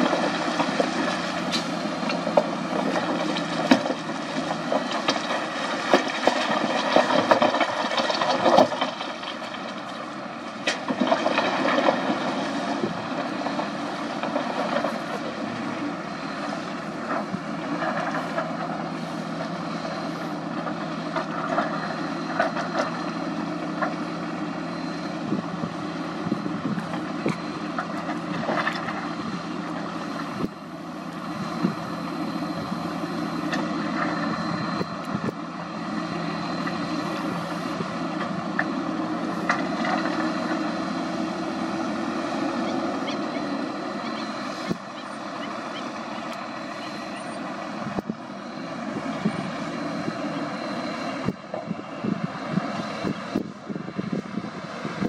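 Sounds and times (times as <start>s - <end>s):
bulldozer diesel engine running: 0.0s - 55.0s
dump truck engine running: 0.0s - 55.0s.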